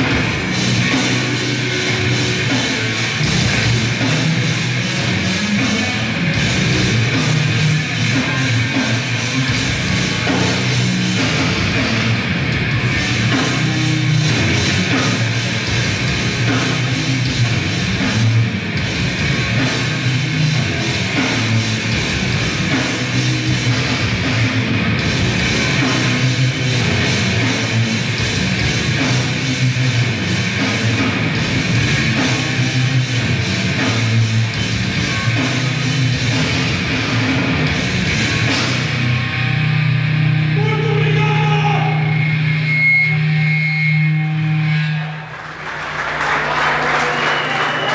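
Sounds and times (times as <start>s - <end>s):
fast dense drumming: 0.0s - 39.1s
distorted electric guitars: 0.0s - 47.9s.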